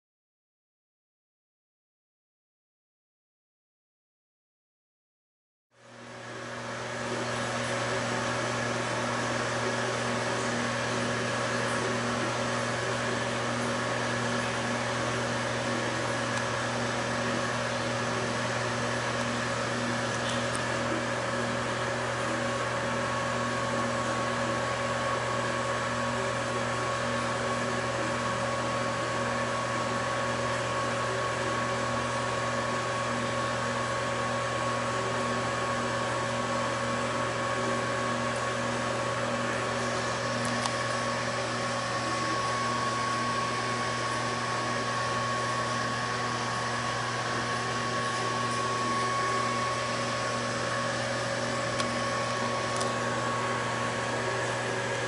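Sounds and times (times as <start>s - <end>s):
machine hum with high whine: 5.8s - 55.0s.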